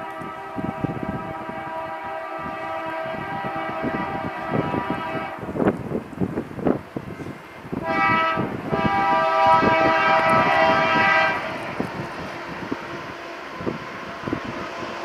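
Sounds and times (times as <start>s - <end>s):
locomotive air horn: 0.0s - 5.6s, 7.2s - 14.4s
low rumble of wind and train: 0.0s - 15.0s.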